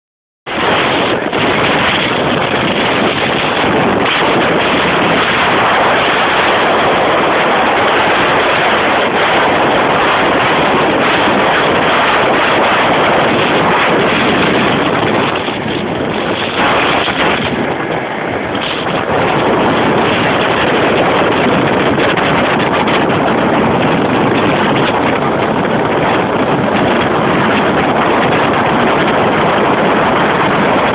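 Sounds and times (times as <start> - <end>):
motorboat engine: 0.5 - 30.9
rushing water: 0.5 - 30.9
wind buffeting microphone: 0.5 - 30.9.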